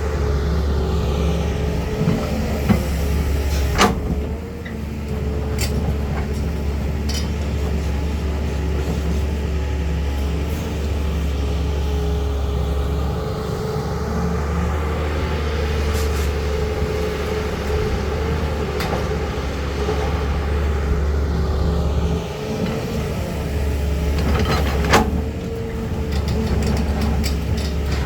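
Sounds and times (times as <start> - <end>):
excavator diesel engine droning: 0.0 - 28.0.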